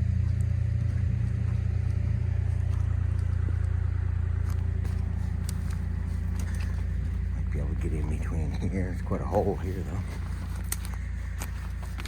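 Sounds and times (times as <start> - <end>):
diesel excavator engine rumbling: 0.0 - 12.0.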